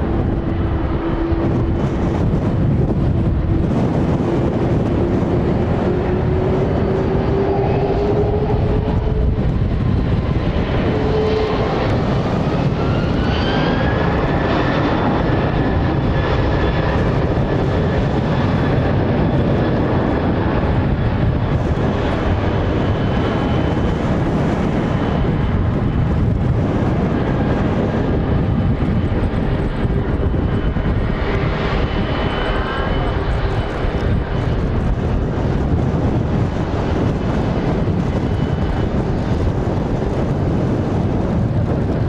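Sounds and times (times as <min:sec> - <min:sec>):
jet engines spooling up: 0:00.0 - 0:42.0.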